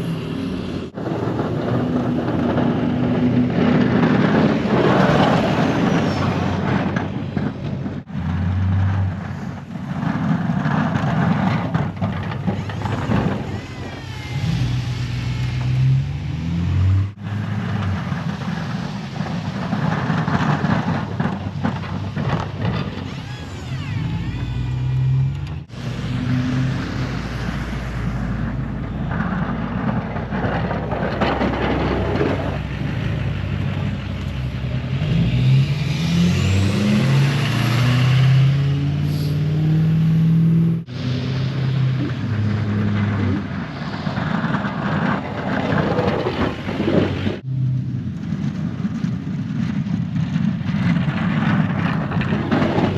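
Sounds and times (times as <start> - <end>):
snowplow engine running: 0.0 - 52.9.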